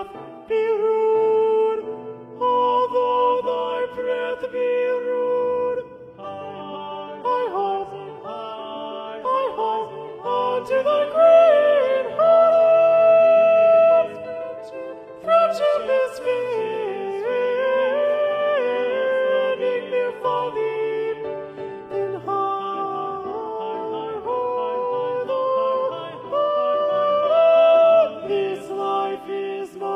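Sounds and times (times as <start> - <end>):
person singing slow melody: 0.0 - 29.9.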